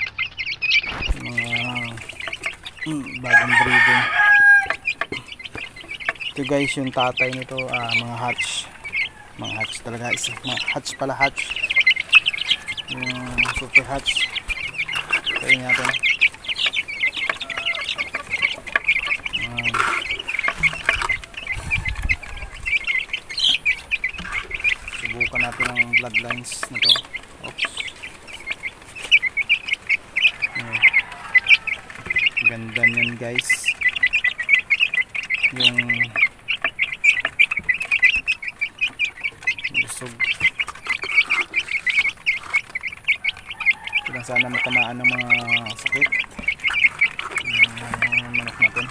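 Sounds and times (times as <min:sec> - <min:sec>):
chicks peeping: 0:00.0 - 0:48.9
low clucks: 0:00.0 - 0:48.9.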